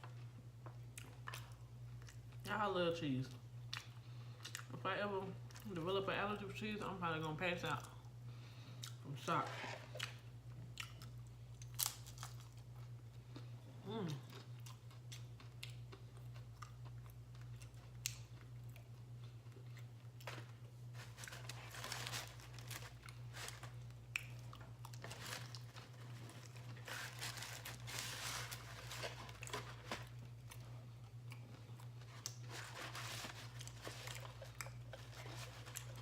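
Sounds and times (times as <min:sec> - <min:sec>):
chewing crunchy tostada shell: 0:00.0 - 0:02.5, 0:03.4 - 0:04.8, 0:08.8 - 0:36.0
steady low hum: 0:00.0 - 0:36.0.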